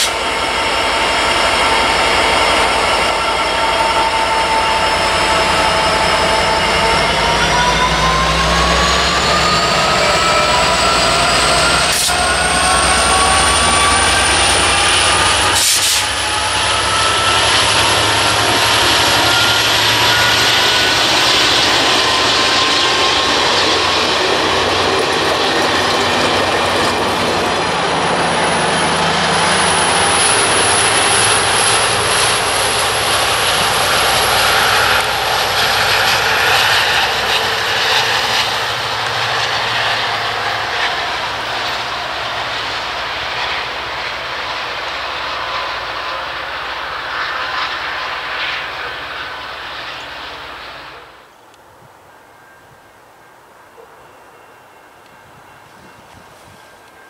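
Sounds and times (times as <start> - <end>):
rush of wheels on rail: 0.0 - 52.0, 54.3 - 57.0
locomotive whine: 0.0 - 57.0.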